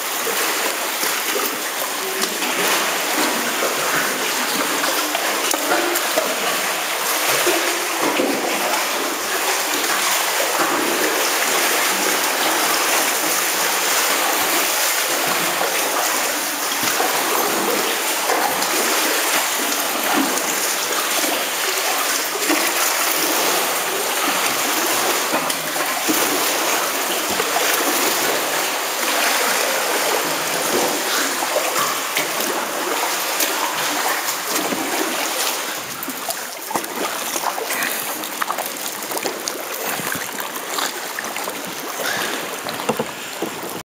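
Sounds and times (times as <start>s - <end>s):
water dripping: 0.0s - 43.8s
water lapping against rock: 0.0s - 43.8s.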